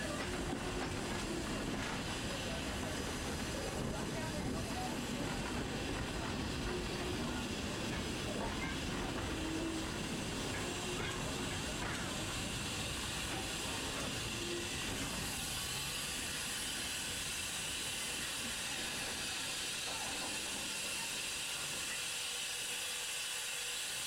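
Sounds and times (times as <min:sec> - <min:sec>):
low rumble of wagons: 0:00.0 - 0:22.0
steam locomotive hissing: 0:00.0 - 0:24.0.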